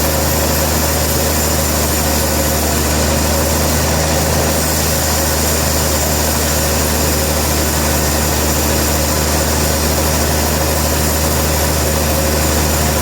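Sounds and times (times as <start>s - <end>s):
sawmill machinery drone: 0.0s - 13.0s.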